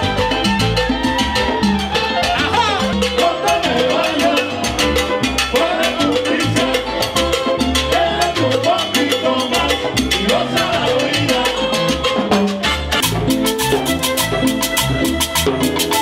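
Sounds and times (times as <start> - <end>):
drums: 0.0 - 8.4, 11.4 - 16.0
electric bass: 0.0 - 16.0
salsa band playing: 0.0 - 16.0.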